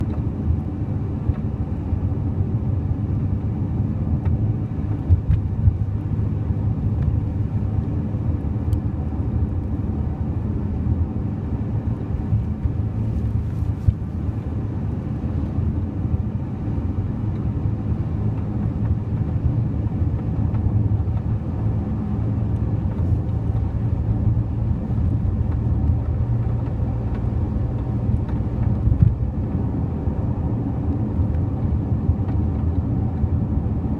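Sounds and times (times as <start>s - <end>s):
road and engine rumble: 0.0s - 33.9s.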